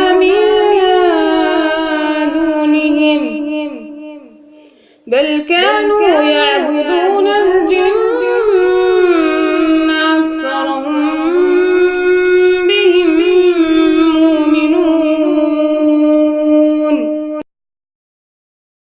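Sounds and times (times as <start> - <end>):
woman chanting melodically: 0.0 - 17.4.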